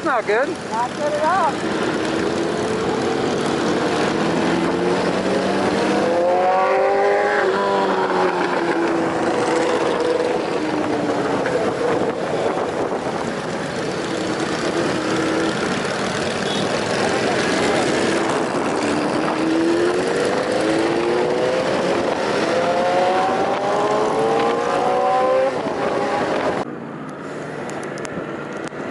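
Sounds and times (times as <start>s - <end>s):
motorcycle engine revving: 0.6s - 26.7s.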